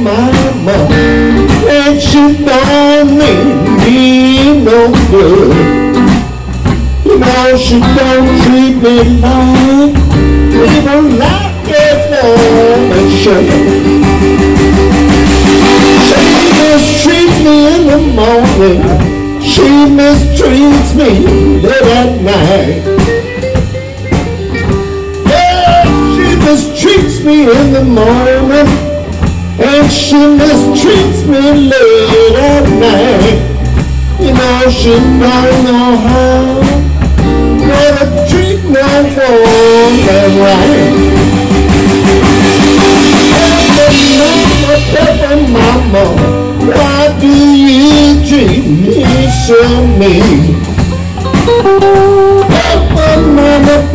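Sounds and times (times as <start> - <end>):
man singing: 0.0 - 14.2, 15.3 - 53.9
electric blues band playing: 0.0 - 53.9.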